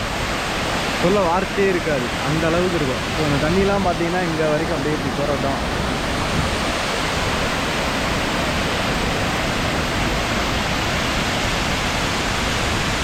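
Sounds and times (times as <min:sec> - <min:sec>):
waterfall pouring over rocks: 0:00.0 - 0:13.0.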